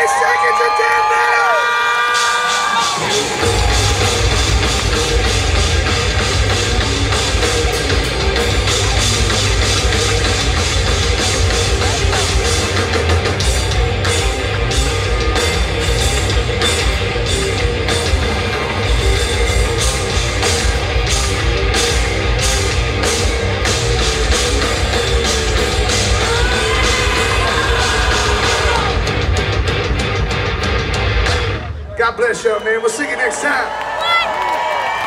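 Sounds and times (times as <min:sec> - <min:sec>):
distorted electric guitars: 0:01.4 - 0:31.9
drum kit with cymbals: 0:02.0 - 0:31.7
bass guitar: 0:02.5 - 0:32.0.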